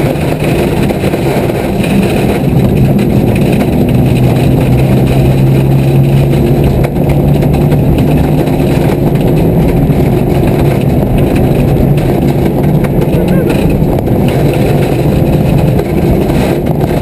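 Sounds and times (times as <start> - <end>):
car engine running: 0.0 - 17.0
road and tyre rumble: 0.0 - 17.0.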